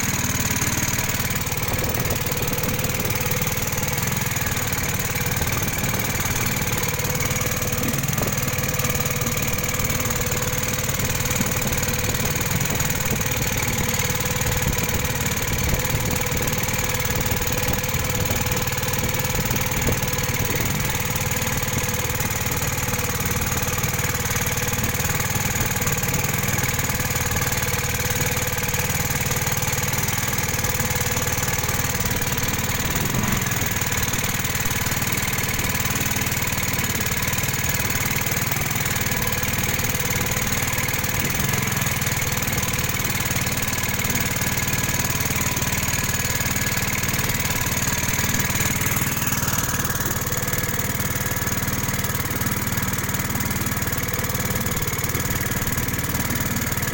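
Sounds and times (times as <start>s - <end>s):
boat engine running: 0.0s - 56.9s.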